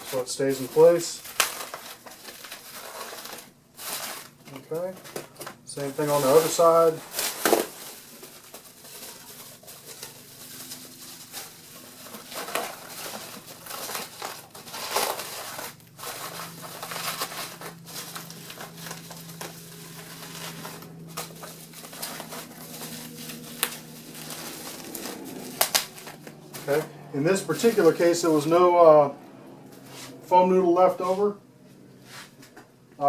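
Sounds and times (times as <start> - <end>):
bubble wrap crinkling: 0.0 - 28.5.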